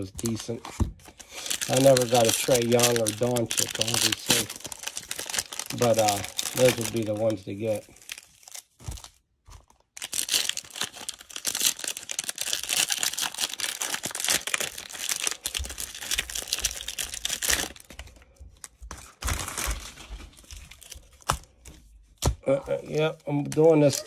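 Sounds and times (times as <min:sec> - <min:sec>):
plastic wrapper crinkling and tearing: 0:00.0 - 0:24.0.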